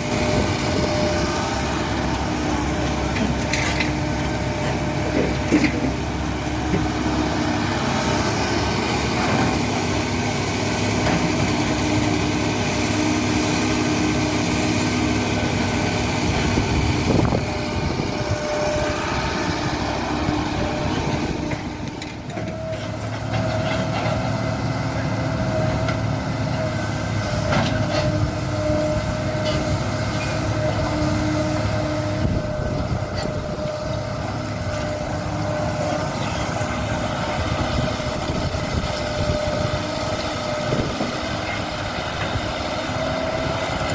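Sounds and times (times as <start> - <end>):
excavator diesel engine: 0.0 - 43.9
hydraulic whine: 0.0 - 43.9.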